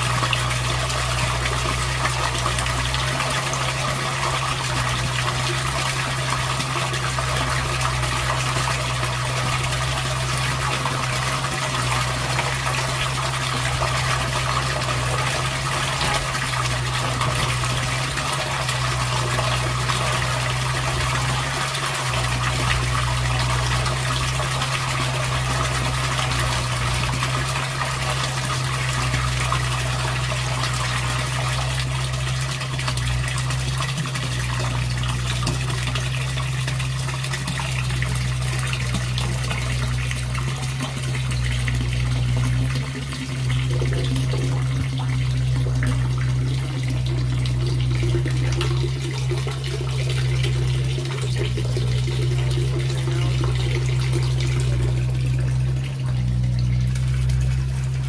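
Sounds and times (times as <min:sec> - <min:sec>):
low pump hum: 0:00.0 - 0:58.0
water gushing: 0:00.0 - 0:58.0.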